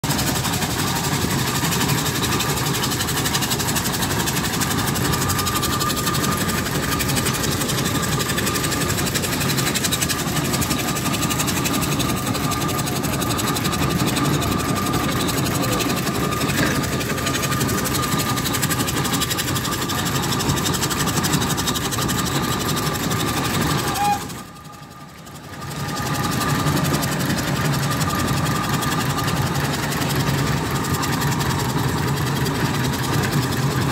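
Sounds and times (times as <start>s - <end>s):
traction engine running: 0.0s - 33.9s.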